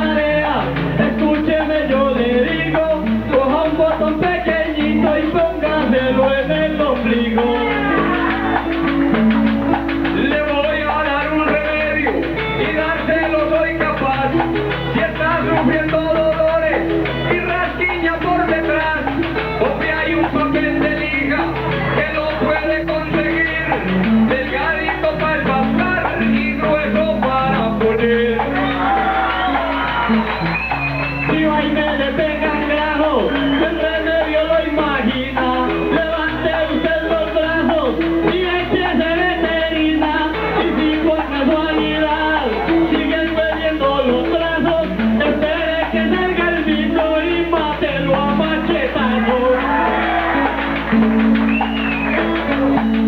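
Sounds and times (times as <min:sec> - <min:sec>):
guitar: 0:00.0 - 0:53.0
man singing: 0:00.0 - 0:53.0
scraper keeping rhythm: 0:00.0 - 0:53.0.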